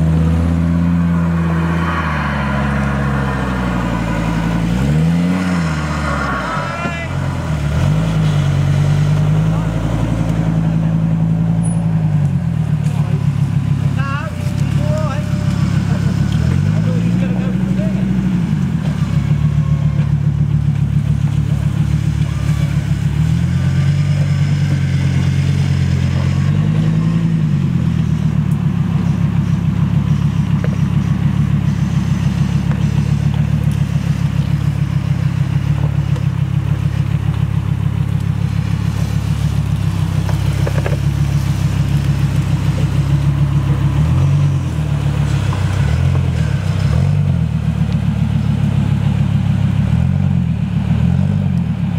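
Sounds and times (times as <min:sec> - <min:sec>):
off-road buggy engine running: 0:00.0 - 0:51.9.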